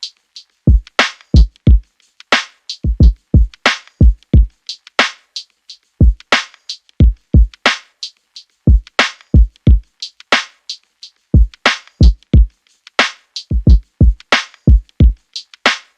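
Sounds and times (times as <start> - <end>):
drum machine beat: 0.0 - 10.8, 11.4 - 15.9.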